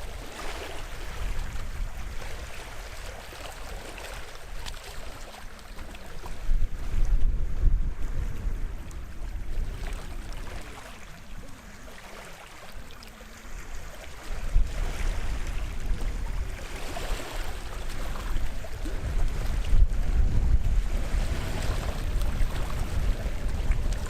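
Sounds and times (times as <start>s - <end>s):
wind buffeting microphone: 0.0s - 11.9s, 13.4s - 24.0s
small waves washing on shore: 0.0s - 24.0s.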